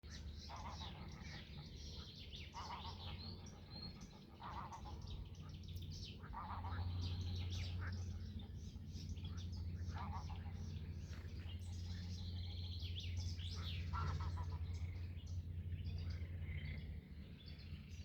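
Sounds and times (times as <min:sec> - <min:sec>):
birds chirping and calling: 0:00.1 - 0:18.0
steady low rumble: 0:00.1 - 0:18.0.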